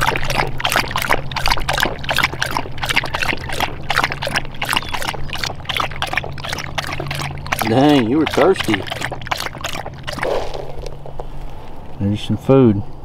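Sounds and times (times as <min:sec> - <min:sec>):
dog lapping water: 0:00.0 - 0:11.3.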